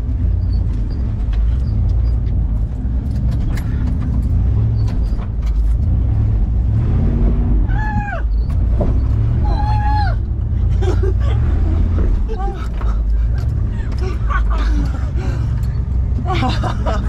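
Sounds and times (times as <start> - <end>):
jeep engine rumbling: 0.0 - 17.0.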